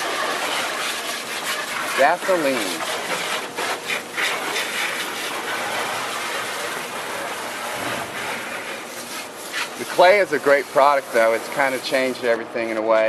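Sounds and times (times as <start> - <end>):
razor blade scraping painted panel: 0.0 - 12.8.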